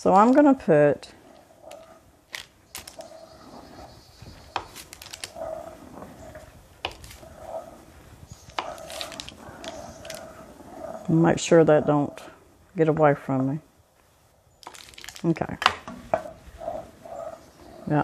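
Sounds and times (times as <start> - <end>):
wooden spoon scraping a pot: 0.1 - 12.4, 15.9 - 18.0.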